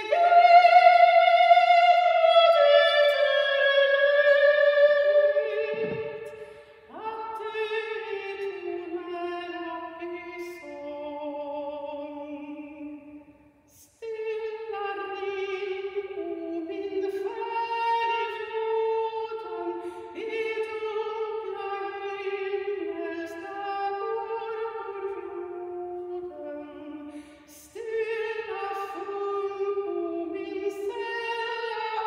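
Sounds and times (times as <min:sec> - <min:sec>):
woman singing with vibrato: 0:00.0 - 0:32.0.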